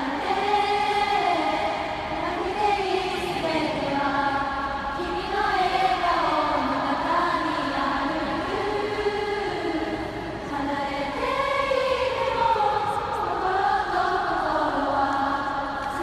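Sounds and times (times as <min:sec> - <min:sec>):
crowd singing together: 0:00.0 - 0:16.0.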